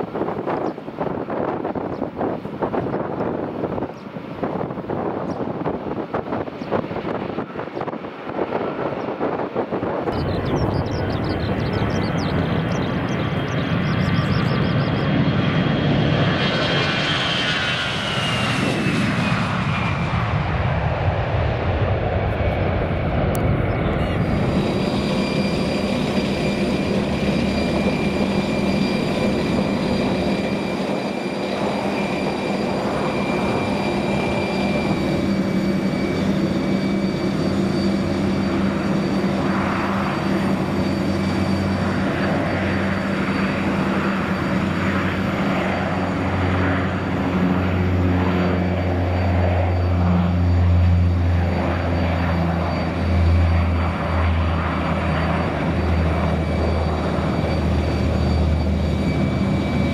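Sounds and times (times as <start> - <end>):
aircraft engine hum: 0.0 - 59.9
jet engines whining: 0.0 - 59.9.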